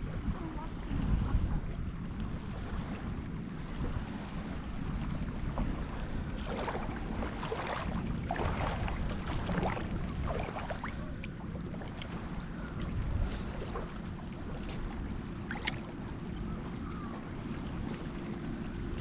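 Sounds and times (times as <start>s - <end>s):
wavelets lapping at shoreline: 0.0s - 19.0s
wind buffeting microphone: 0.0s - 19.0s.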